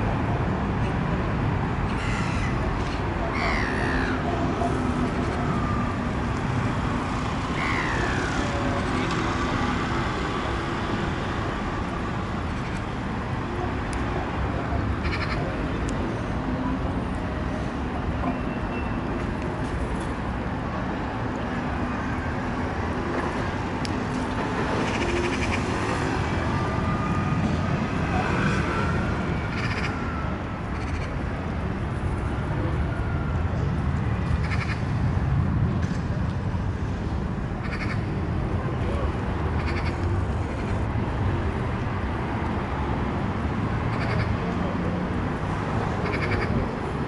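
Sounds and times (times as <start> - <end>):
outdoor rumble and hiss: 0.0 - 47.0.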